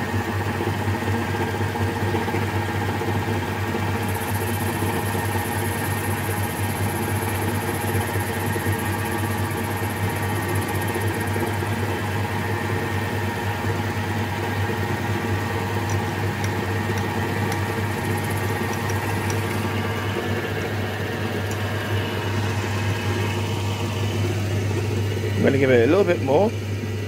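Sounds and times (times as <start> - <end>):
metal lathe running: 0.2 - 27.0.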